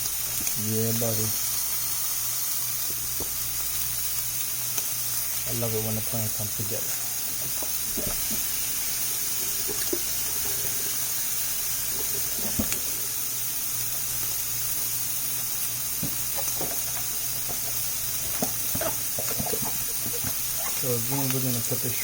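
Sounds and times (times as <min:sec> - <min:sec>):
shrimp sizzling in a pan: 0:00.0 - 0:22.0.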